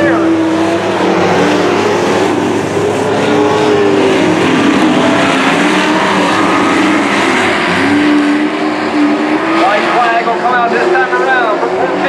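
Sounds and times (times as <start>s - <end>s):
race truck engines revving: 0.0s - 12.0s.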